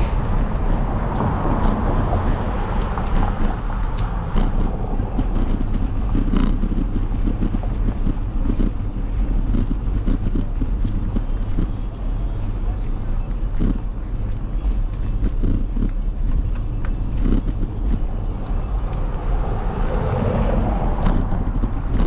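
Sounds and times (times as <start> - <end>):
faint clicks and rattles: 0.0 - 22.0
road rumble: 0.0 - 22.0
wind buffeting microphone: 0.0 - 22.0.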